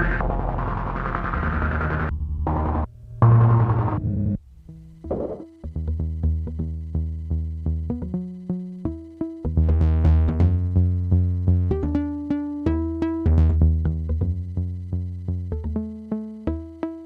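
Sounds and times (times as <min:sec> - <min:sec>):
synthesizer sequence over bass: 0:00.0 - 0:17.0.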